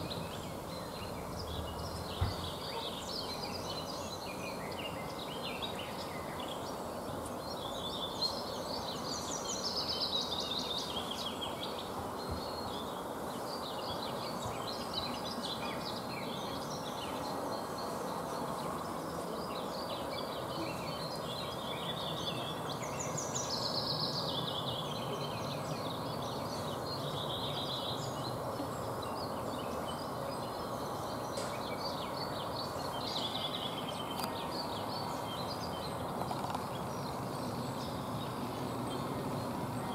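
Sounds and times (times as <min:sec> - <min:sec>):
songbirds singing: 0:00.0 - 0:39.9
steady background hiss: 0:00.0 - 0:39.9.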